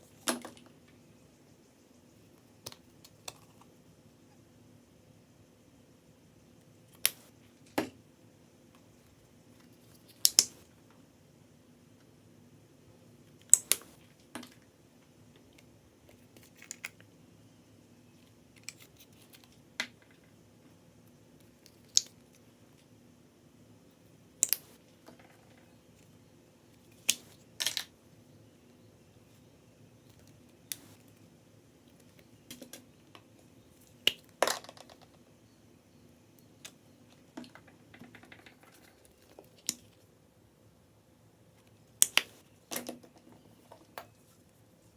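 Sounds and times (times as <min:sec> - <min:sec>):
faint low hum: 0:00.0 - 0:44.9.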